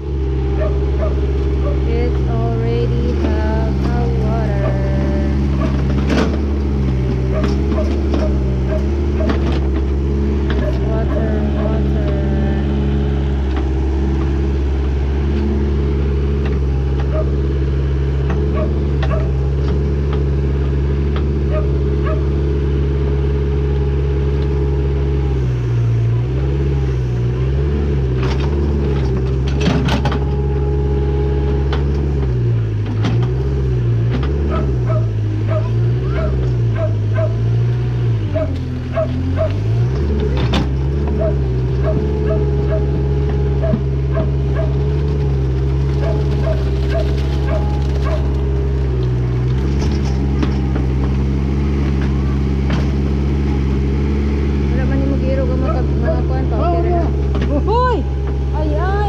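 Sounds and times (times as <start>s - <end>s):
backhoe diesel engine running: 0.0s - 59.0s.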